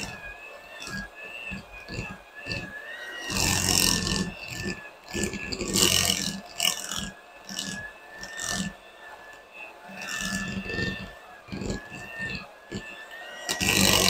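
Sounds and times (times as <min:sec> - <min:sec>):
electric hand mixer whining: 0:00.0 - 0:14.0.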